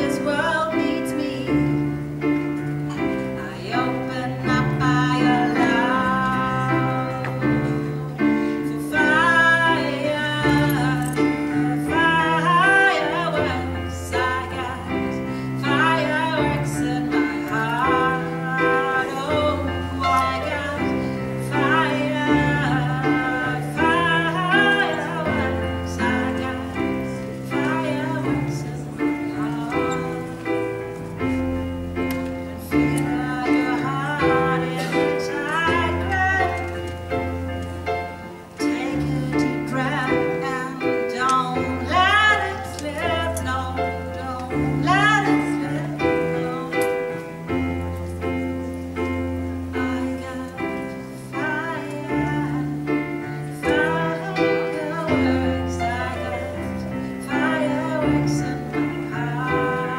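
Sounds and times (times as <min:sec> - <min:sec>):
woman singing into a microphone: 0:00.0 - 0:59.9.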